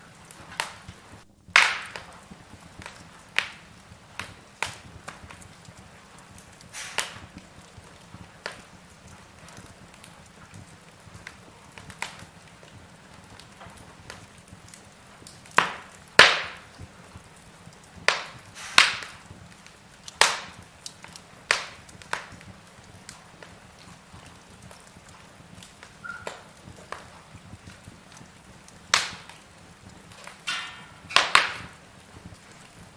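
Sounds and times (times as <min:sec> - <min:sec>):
soft steady hiss: 0:00.0 - 0:32.9
wood fire crackling and popping: 0:00.0 - 0:32.9.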